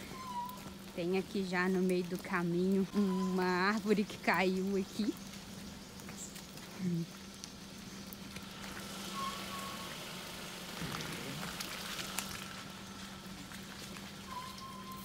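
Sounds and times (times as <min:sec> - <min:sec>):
drizzle on foliage: 0:00.0 - 0:15.0.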